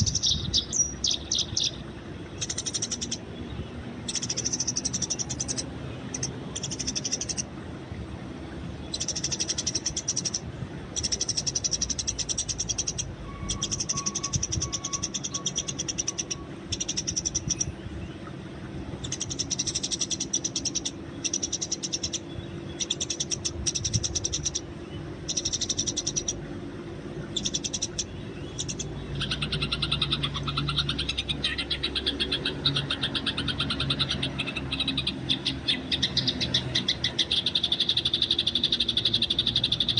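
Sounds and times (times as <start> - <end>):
sparrows chirping: 0.0 - 7.5, 8.7 - 18.2, 19.0 - 26.5, 27.2 - 39.9.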